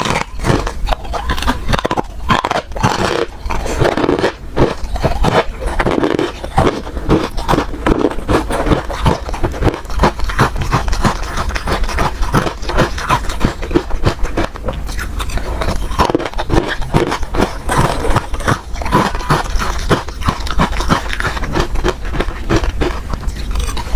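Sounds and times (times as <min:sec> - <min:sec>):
ice crunching being chewed: 0:00.0 - 0:23.9.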